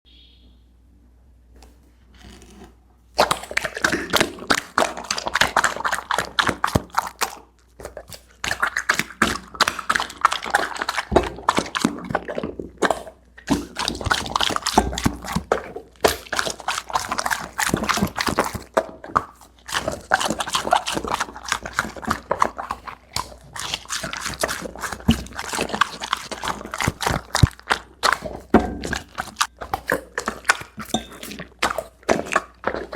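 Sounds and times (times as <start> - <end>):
tortoise chewing food: 1.6 - 32.9.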